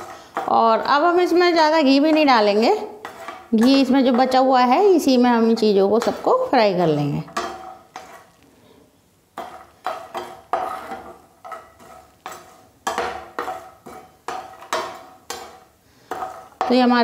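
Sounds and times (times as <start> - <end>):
metal skimmer scraping frying pan: 0.0 - 8.4, 9.4 - 17.0.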